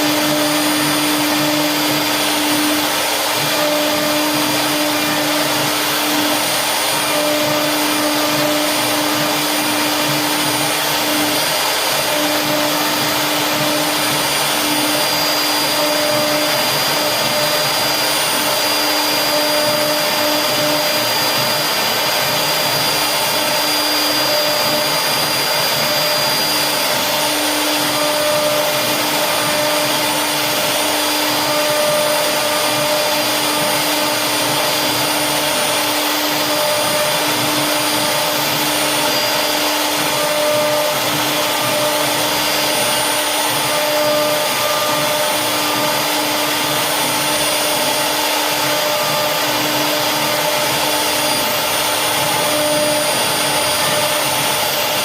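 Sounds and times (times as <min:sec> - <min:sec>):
hiss of wood cutting: 0:00.0 - 0:55.0
router spindle humming: 0:00.0 - 0:55.0.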